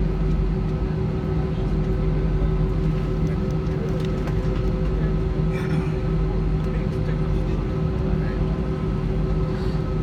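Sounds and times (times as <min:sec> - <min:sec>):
jet engines droning in cabin: 0:00.0 - 0:10.0.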